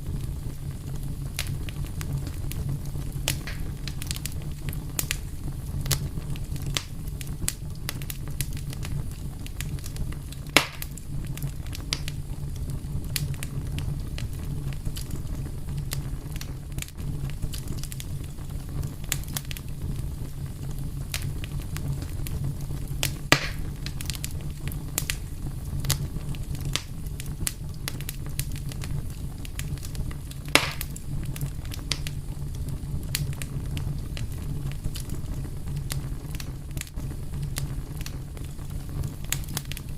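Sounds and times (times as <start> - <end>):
burning wood popping: 0.0 - 39.9
low rumble of flame: 0.0 - 39.9
wood fire crackling: 0.0 - 39.9.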